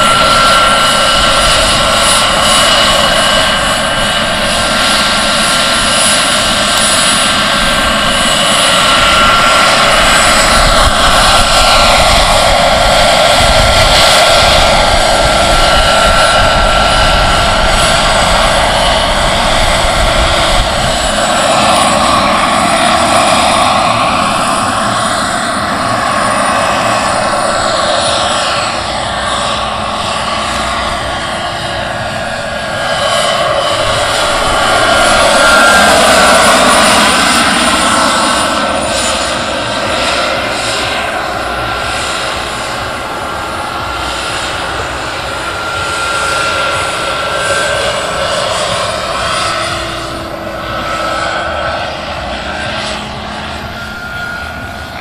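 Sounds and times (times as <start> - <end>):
helicopter rotor noise: 0.0 - 55.0
model turbine engine whining: 0.0 - 55.0.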